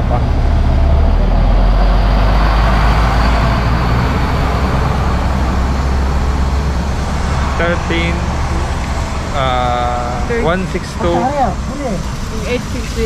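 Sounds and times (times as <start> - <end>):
heavy vehicle engine rumbling: 0.0 - 13.0
road traffic: 0.0 - 13.0.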